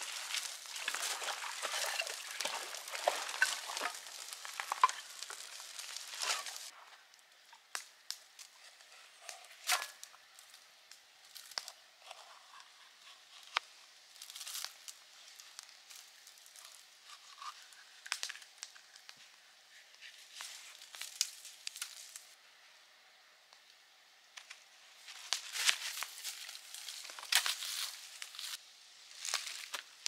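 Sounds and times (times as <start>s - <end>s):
campfire crackling: 0.0s - 22.4s, 24.4s - 30.0s.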